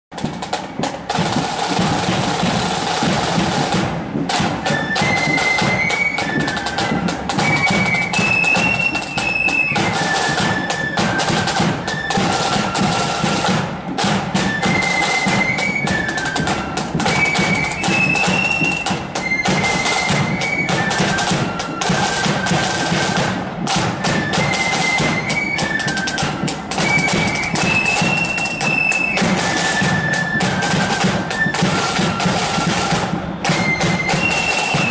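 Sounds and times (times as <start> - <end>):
side drums: 0.1 - 34.9
flutes playing high melody: 0.4 - 34.9.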